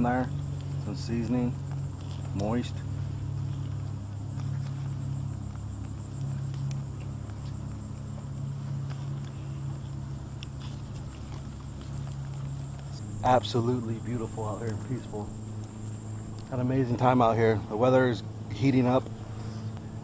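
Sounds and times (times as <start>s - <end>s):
crickets droning: 0.0s - 20.0s
low steady hum: 0.0s - 20.0s.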